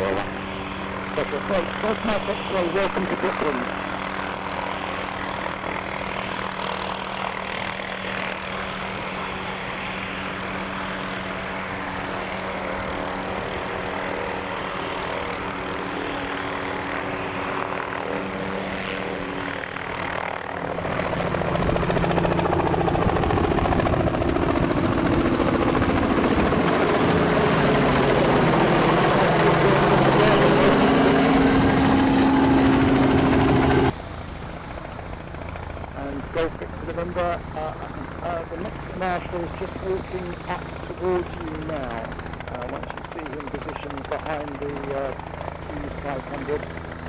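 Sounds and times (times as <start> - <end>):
helicopter engine and rotor hum: 0.0 - 47.0.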